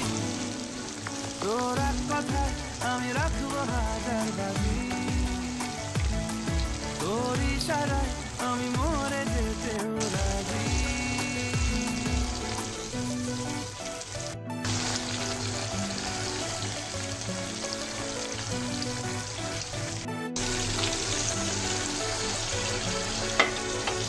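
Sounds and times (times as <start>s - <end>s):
background song: 0.0s - 24.0s
meat frying in hot oil: 0.0s - 24.0s.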